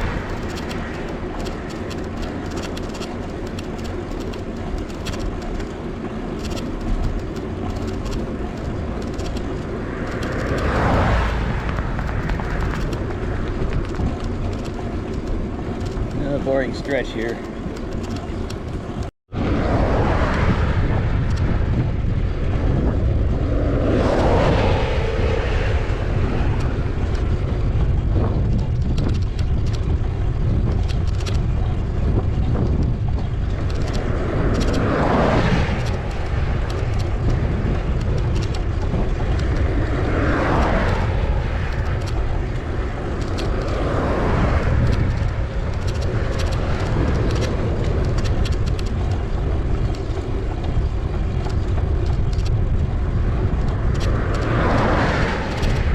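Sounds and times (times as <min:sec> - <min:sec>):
vehicles passing: 0:00.0 - 0:55.9
wind rumble on microphone: 0:00.0 - 0:55.9.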